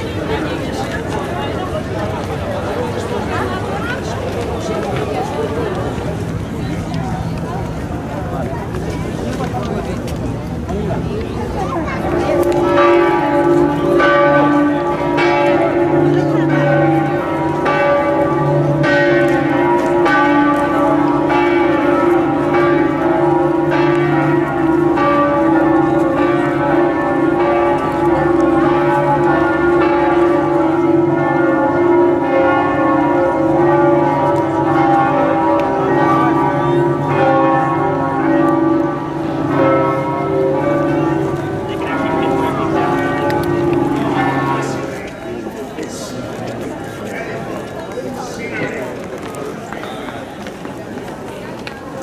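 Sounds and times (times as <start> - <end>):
church bells pealing: 0.0 - 47.9.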